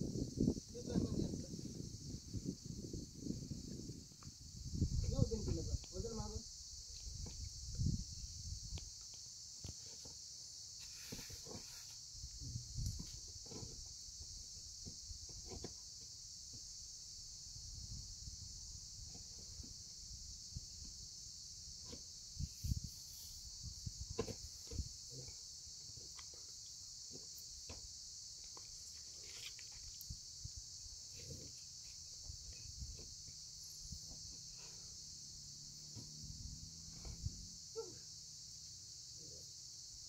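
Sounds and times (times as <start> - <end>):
high-pitched insect chirring: 0.0 - 40.0.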